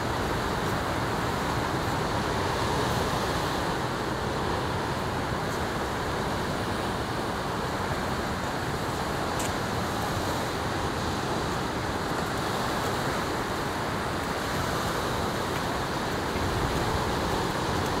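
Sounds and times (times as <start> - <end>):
ocean surf: 0.0 - 18.0
wind on microphone: 0.0 - 18.0.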